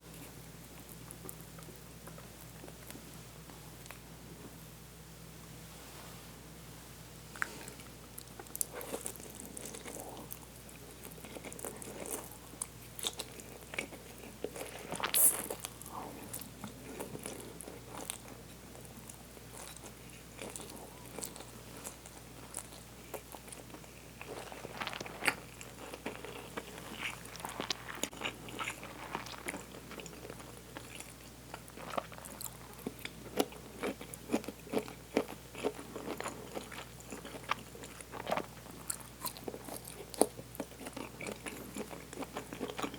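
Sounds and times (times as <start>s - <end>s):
person chewing food: 7.4s - 42.9s.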